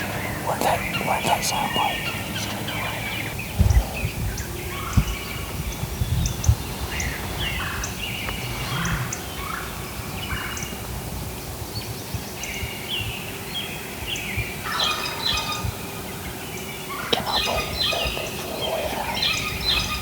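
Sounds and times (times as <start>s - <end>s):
songbirds chirping: 0.0s - 10.9s, 11.8s - 20.0s.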